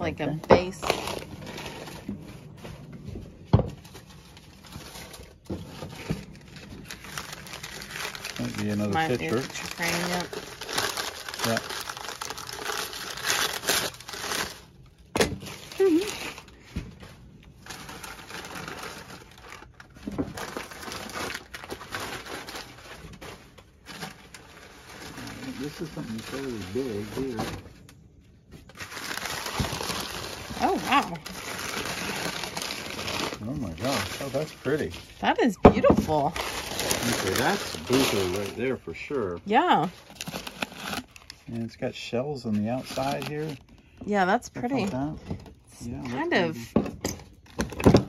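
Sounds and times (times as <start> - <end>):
newspaper crinkling and rustling: 0.7 - 28.0, 28.6 - 35.3, 36.0 - 44.0.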